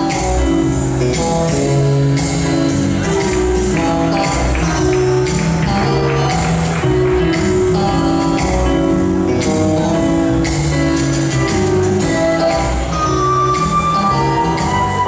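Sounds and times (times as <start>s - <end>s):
slow foxtrot music: 0.0s - 15.0s.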